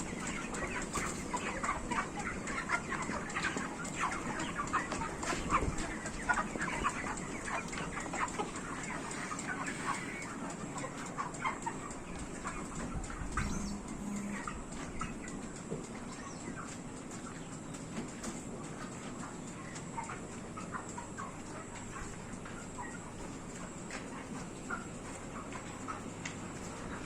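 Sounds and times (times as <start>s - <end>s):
chickens clucking and chirping: 0.0s - 27.0s.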